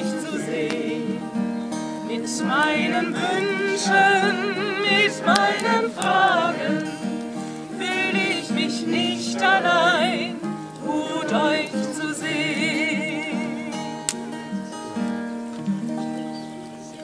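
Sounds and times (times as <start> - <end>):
group of people singing: 0.0 - 14.1.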